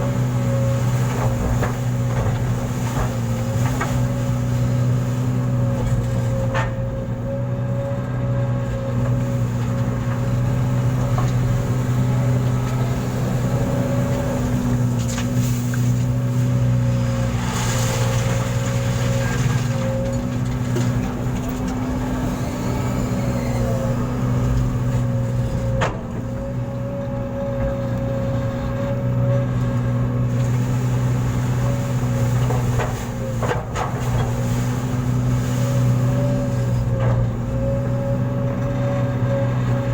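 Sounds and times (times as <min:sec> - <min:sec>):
large engine running steadily: 0:00.0 - 0:39.9.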